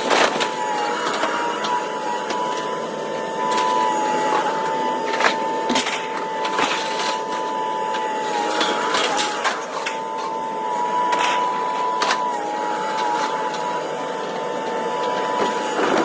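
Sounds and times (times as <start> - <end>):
high-pitched machine whine: 0.0 - 16.0.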